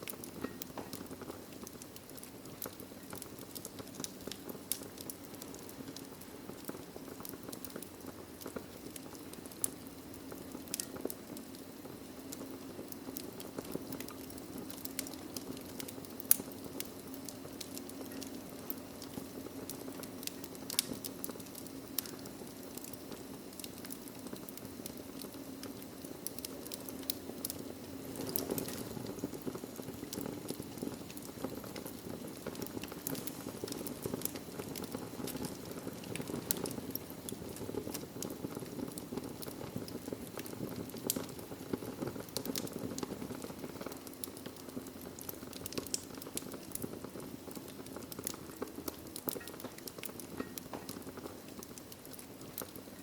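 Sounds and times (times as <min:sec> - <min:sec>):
wood fire burning: 0:00.0 - 0:53.0.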